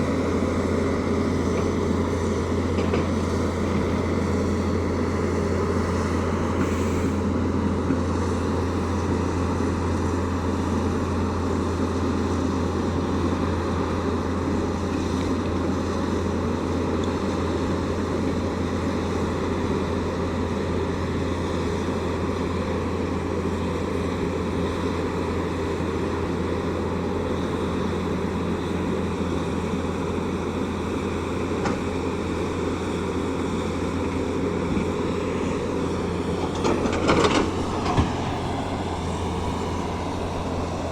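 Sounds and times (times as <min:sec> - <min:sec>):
excavator diesel engine humming: 0:00.0 - 0:40.9.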